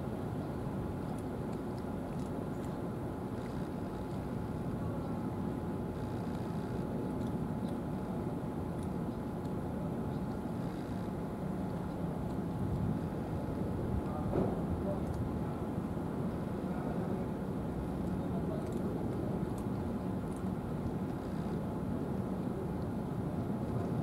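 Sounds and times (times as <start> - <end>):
faint constant whine: 0.0 - 24.0
low mechanical rumble: 0.0 - 24.0.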